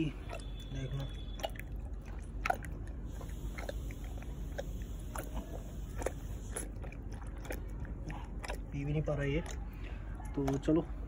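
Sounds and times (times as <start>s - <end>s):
dog lapping and chewing wetly: 0.0s - 11.0s.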